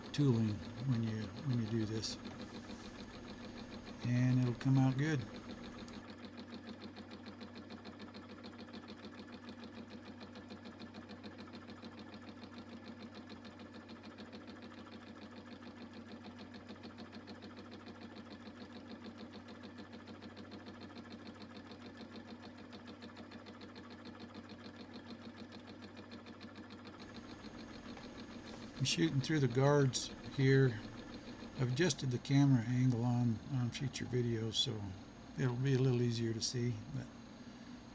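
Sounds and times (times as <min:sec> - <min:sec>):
milling machine motor hum: 0:00.0 - 0:37.9.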